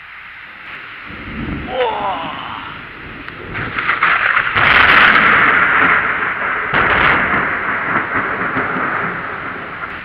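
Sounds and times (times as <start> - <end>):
heavy rain: 0.0 - 10.0
thunder rolling: 0.6 - 10.0
sharp thunder crack: 0.8 - 10.0.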